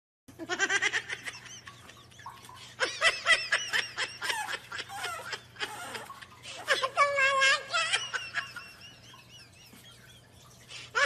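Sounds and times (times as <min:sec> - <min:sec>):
person giggling: 0:00.3 - 0:11.0.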